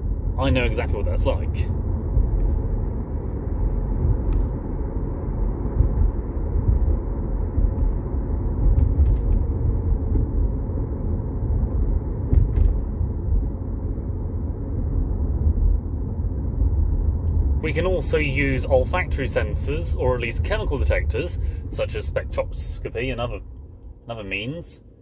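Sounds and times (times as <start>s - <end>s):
car cabin rumble: 0.0s - 25.0s.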